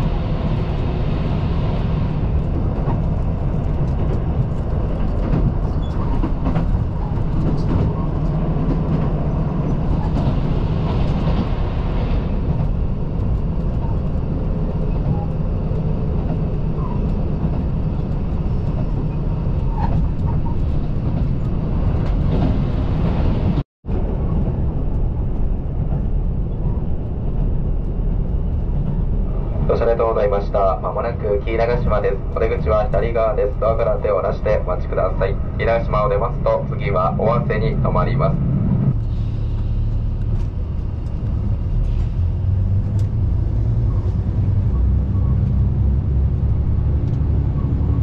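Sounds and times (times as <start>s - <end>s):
train wheels on rails: 0.0s - 29.7s, 34.6s - 48.0s
diesel railcar engine rumble: 0.0s - 48.0s.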